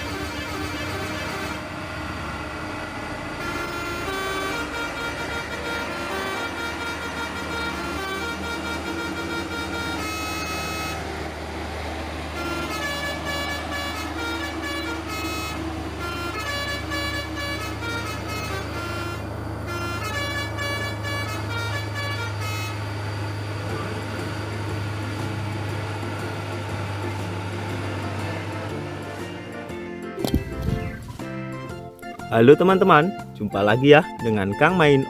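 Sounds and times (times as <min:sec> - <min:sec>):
multi-tone horn toots: 0:00.0 - 0:29.7
truck engine running: 0:00.0 - 0:35.0.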